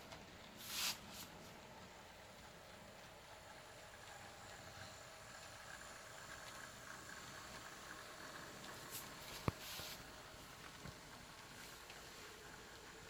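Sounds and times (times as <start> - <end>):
model train motor whine: 2.3 - 13.0.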